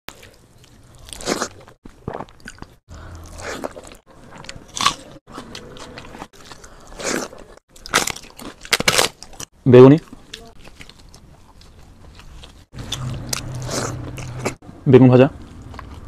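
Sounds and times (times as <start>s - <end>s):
crunching and chewing fried food: 0.1s - 14.6s, 15.4s - 16.0s.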